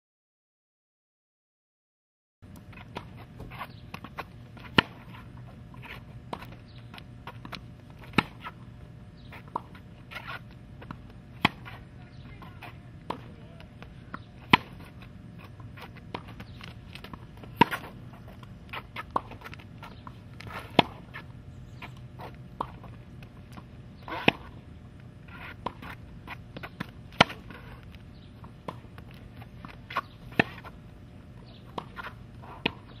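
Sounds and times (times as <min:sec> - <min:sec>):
low steady hum: 0:02.4 - 0:33.0
racket striking tennis ball: 0:02.6 - 0:24.7, 0:25.3 - 0:30.8, 0:31.4 - 0:33.0.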